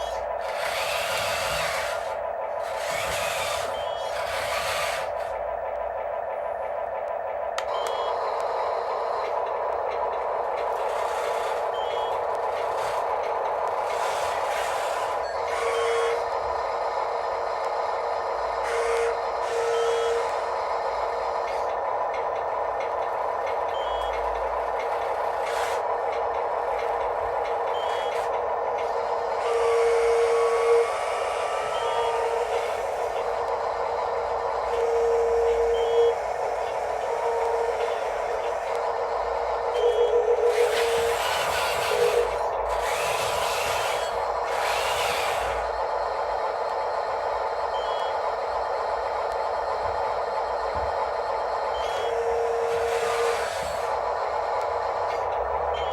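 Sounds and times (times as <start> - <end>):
small electric motors whining: 0.0 - 5.4, 8.8 - 21.8, 22.9 - 46.9, 51.6 - 55.9.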